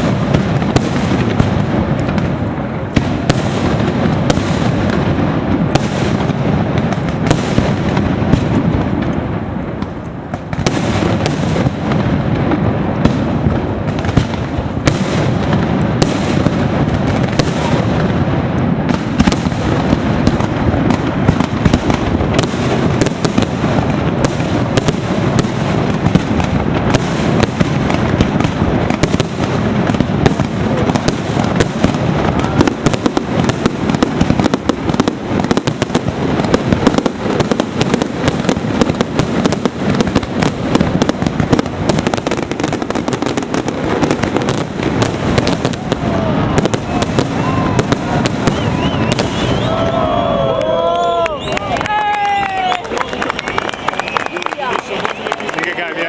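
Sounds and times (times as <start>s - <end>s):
firework bangs and pops: 0.0s - 56.0s.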